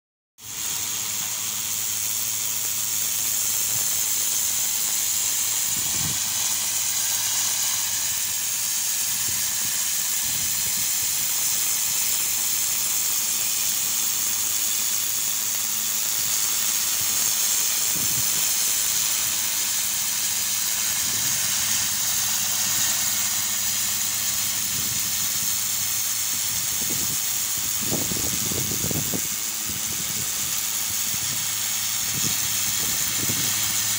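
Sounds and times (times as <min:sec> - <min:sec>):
pressure washer spraying stone: 0:00.4 - 0:33.9.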